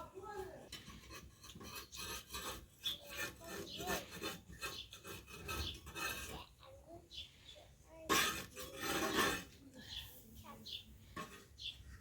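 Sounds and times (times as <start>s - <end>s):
rubbing and scraping strokes: 0.6s - 6.8s, 7.9s - 12.0s.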